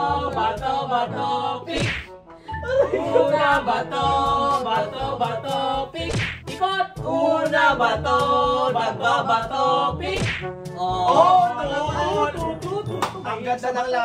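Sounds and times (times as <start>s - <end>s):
music with singing voice: 0.0s - 13.6s.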